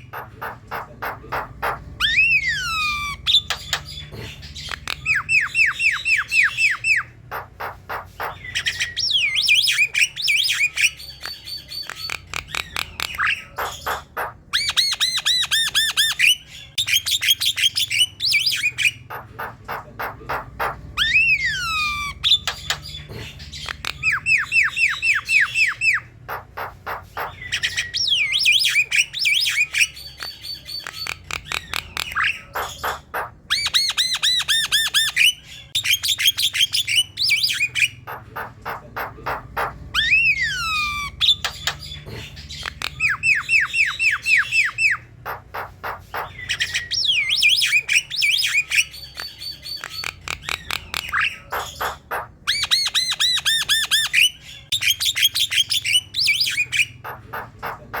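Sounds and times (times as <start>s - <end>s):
bird singing varied song: 0.0s - 58.0s
bird squawking: 0.0s - 58.0s.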